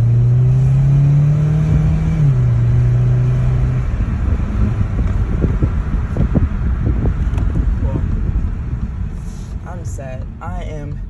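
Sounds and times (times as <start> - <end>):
car engine accelerating hard: 0.0 - 9.7.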